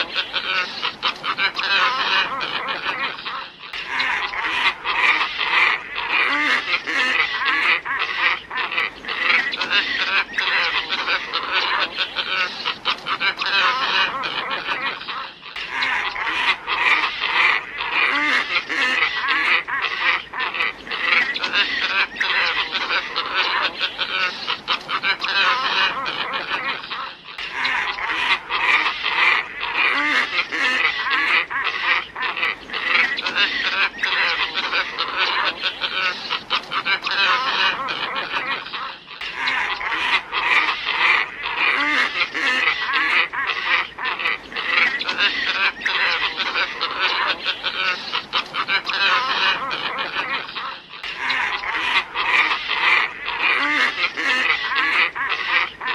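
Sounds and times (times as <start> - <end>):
flock of birds croaking and honking: 0.0 - 55.9.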